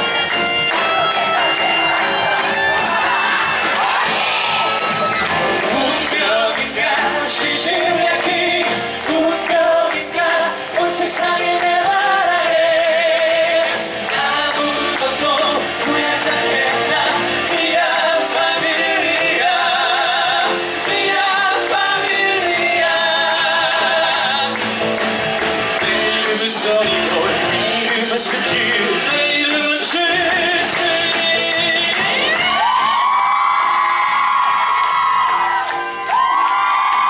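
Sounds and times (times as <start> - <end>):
person singing with vibrato: 0.0 - 24.8, 25.7 - 32.9
band playing: 0.0 - 37.0.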